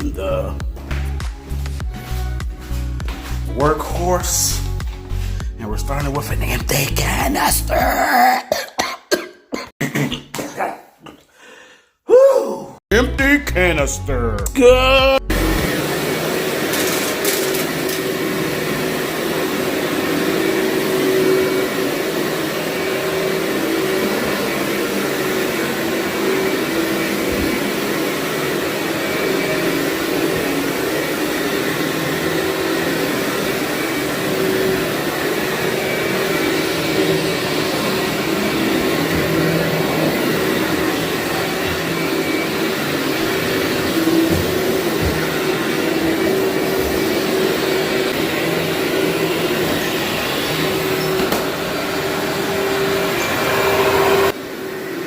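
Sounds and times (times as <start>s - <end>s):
vacuum cleaner running: 0.0s - 7.8s, 15.2s - 55.0s.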